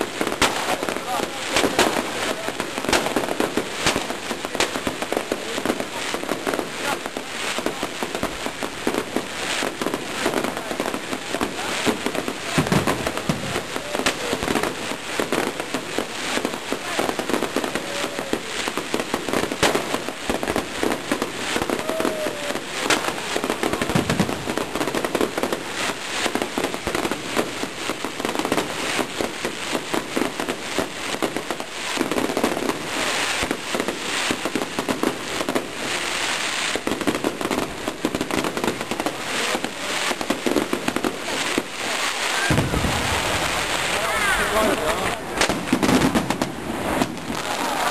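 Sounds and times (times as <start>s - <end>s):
fireworks bangs and crackles: 0.0s - 47.9s
fireworks whistling: 0.0s - 47.9s.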